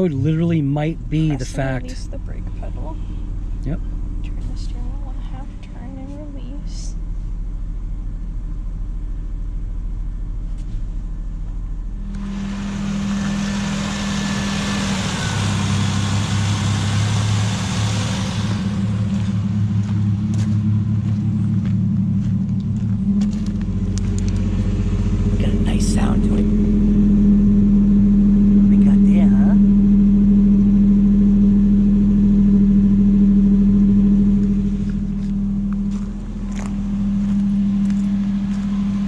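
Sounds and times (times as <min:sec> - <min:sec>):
engine idling: 0:00.0 - 0:39.0.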